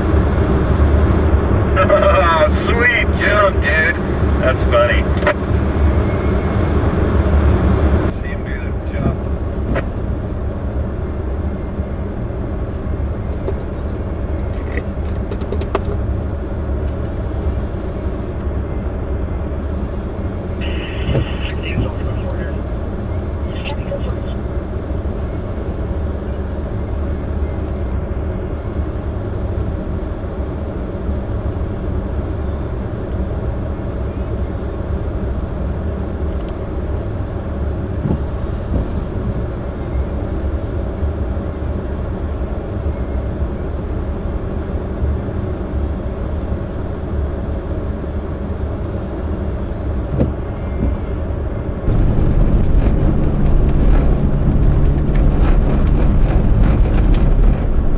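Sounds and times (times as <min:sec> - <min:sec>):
car driving rumble: 0:00.0 - 0:28.9, 0:29.5 - 0:42.9, 0:47.1 - 0:57.9.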